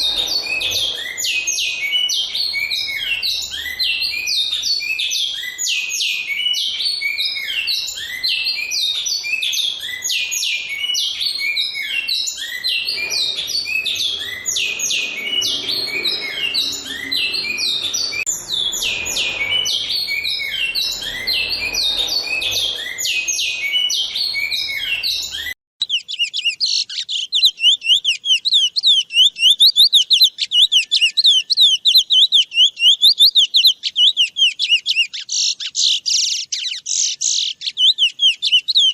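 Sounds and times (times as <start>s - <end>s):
bird singing high notes: 0.0s - 38.9s
bird trilling fast: 0.0s - 38.9s.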